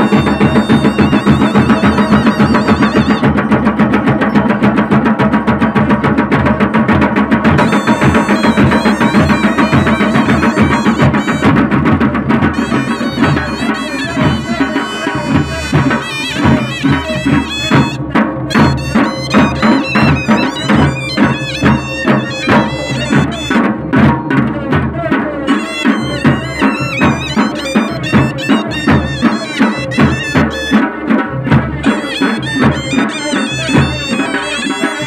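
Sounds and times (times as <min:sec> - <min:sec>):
wavering reed pipe melody: 0:00.0 - 0:04.5, 0:07.6 - 0:11.8, 0:12.4 - 0:23.8, 0:25.5 - 0:30.8, 0:31.8 - 0:35.0
hand drums beating: 0:00.0 - 0:35.0.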